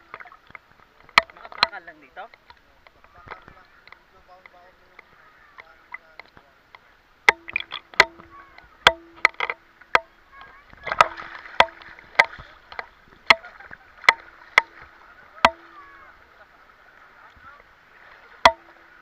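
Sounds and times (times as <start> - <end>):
light wash of water: 0.0 - 19.0
small waves slapping: 0.0 - 19.0.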